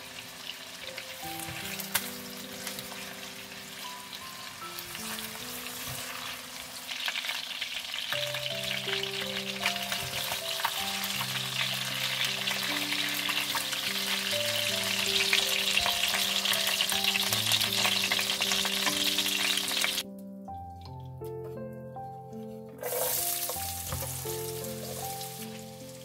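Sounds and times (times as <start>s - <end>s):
chicken sizzling in hot oil: 0.0s - 20.0s, 22.8s - 26.0s
soft background music: 0.0s - 26.0s.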